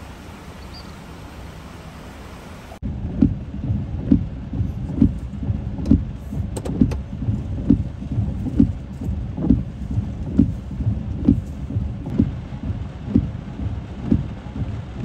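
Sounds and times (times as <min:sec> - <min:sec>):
low rumble inside car: 0:00.0 - 0:15.0
rain: 0:00.0 - 0:15.0
windshield wipers thumping: 0:02.8 - 0:15.0.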